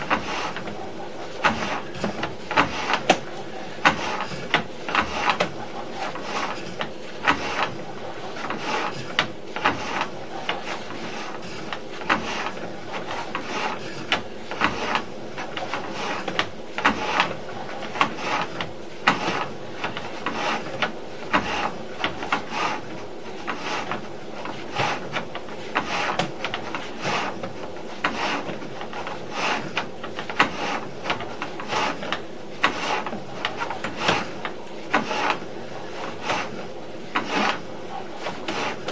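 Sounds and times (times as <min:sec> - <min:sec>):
cable rubbing and scraping in pipe: 0:00.0 - 0:38.9.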